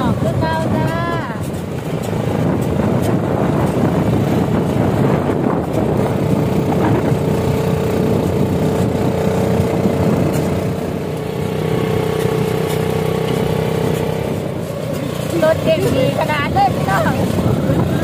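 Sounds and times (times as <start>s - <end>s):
cart engine running: 0.0s - 18.0s
road and wind rumble: 0.0s - 18.0s.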